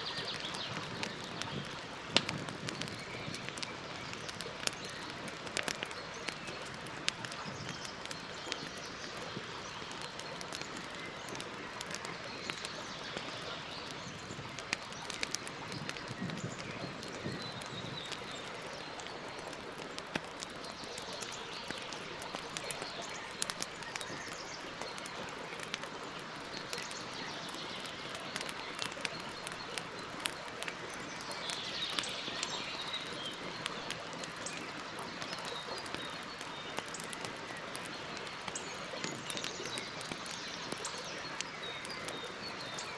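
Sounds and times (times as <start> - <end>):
birds chirping: 0.0 - 42.9
campfire crackling and popping: 0.0 - 42.9.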